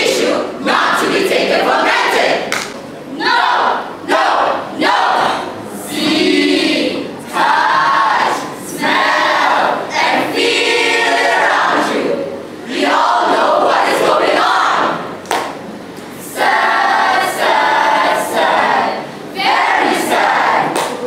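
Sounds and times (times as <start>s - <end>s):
group singing in unison: 0.0s - 2.5s, 3.2s - 21.0s.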